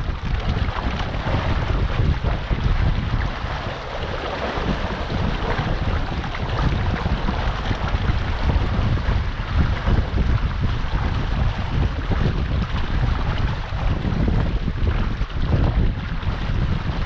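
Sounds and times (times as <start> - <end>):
water splashing along hull: 0.0 - 17.0
wind buffeting microphone: 0.0 - 17.0.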